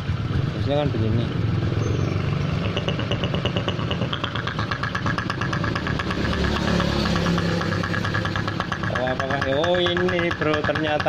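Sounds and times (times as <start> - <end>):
motorcycle engine idling roughly: 0.0 - 11.0.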